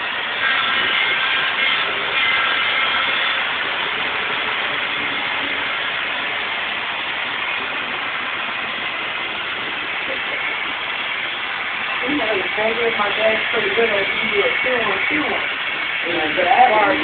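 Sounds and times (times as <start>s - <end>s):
faint thin whine: 0.0s - 17.0s
model train whir and rumble: 0.0s - 17.0s.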